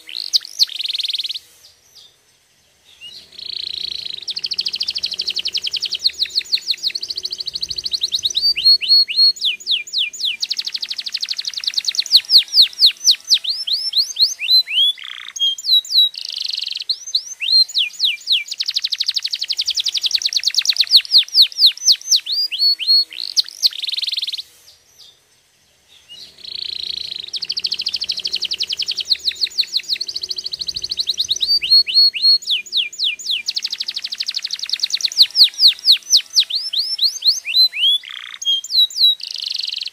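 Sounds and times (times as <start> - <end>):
canary singing trills: 0.0 - 2.2, 2.8 - 39.9.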